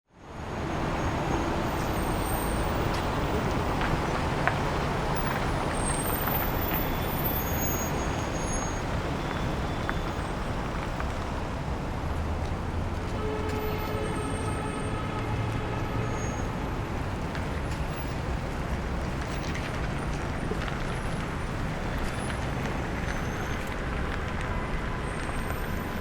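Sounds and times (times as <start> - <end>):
low traffic rumble: 0.2 - 26.0.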